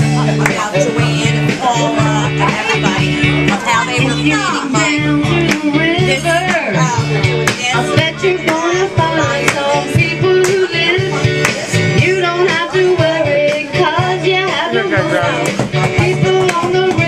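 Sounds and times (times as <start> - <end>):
song with guitar and beat: 0.0 - 17.0.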